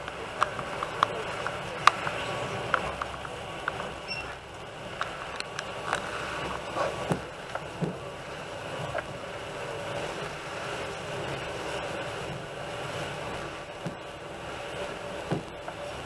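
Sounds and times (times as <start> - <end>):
train rumble and rattle: 0.0 - 16.0.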